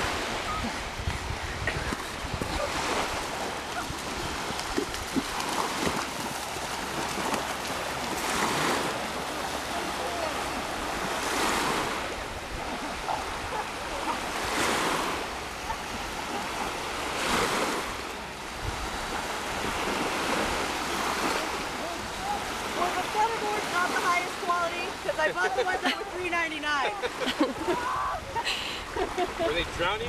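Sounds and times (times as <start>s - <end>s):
small waves breaking on shore: 0.0s - 30.0s.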